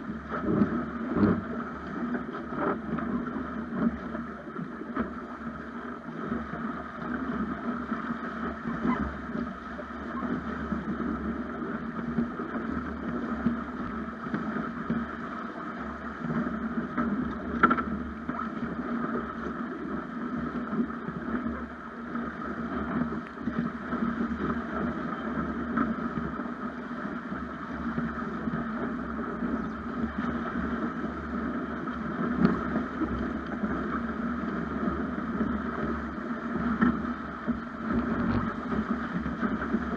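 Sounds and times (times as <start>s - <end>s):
water rushing: 0.0s - 39.9s
wind: 0.0s - 39.9s.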